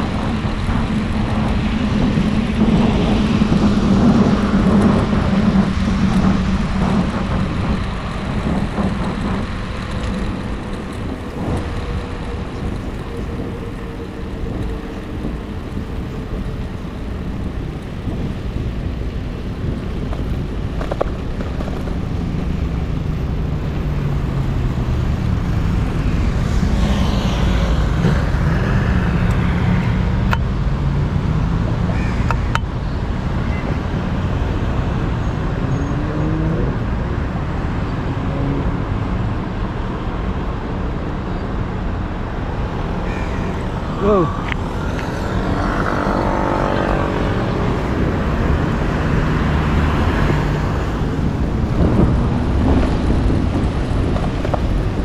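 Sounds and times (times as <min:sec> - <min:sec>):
rushing air: 0:00.0 - 0:31.5, 0:41.8 - 0:55.0
road traffic: 0:00.0 - 0:55.0.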